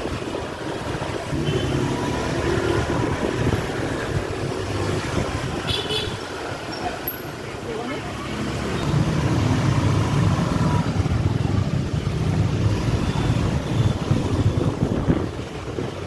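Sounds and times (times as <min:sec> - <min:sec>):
wind buffeting microphone: 0:00.0 - 0:01.5, 0:02.3 - 0:06.7, 0:08.8 - 0:16.0.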